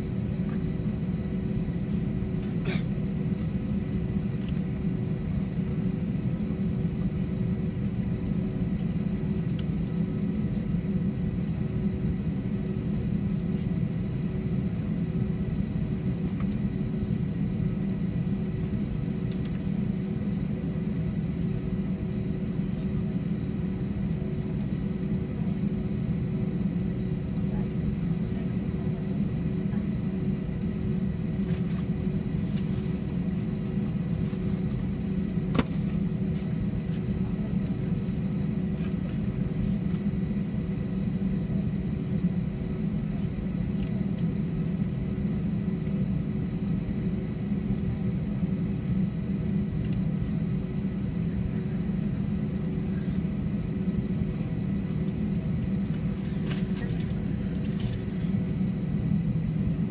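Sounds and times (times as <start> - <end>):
aircraft cabin engine rumble: 0.0 - 59.9
faint steady hum: 0.0 - 59.9.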